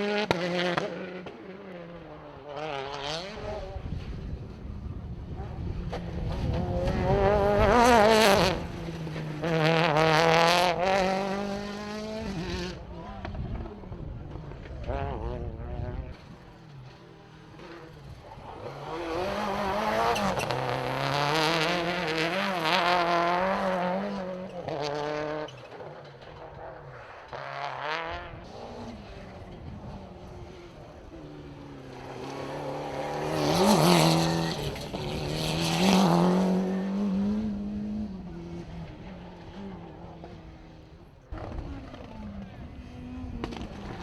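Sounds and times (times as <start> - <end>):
cars passing loudly: 0.0 - 44.0
rally car engines revving: 0.0 - 44.0.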